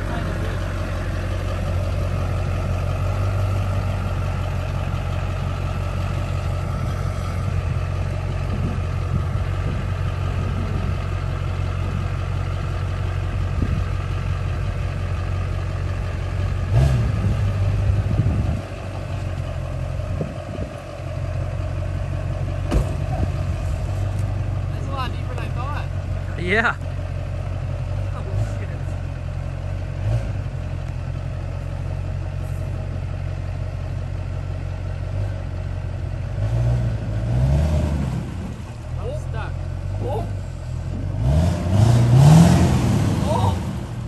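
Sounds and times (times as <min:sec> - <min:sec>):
truck engine idling: 0:00.0 - 0:37.5, 0:38.1 - 0:44.0.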